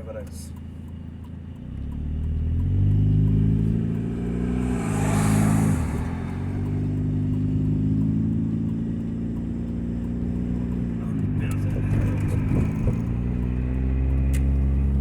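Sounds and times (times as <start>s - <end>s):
car engine pulling away: 0.0s - 15.0s.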